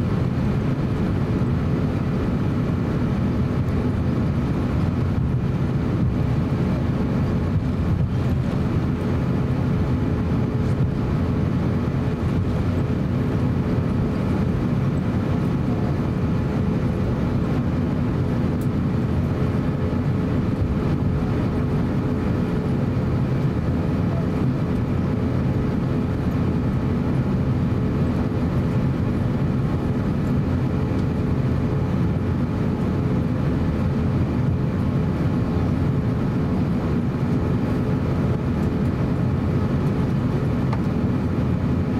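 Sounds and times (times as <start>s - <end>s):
aircraft taxiing rumble: 0.0s - 41.9s.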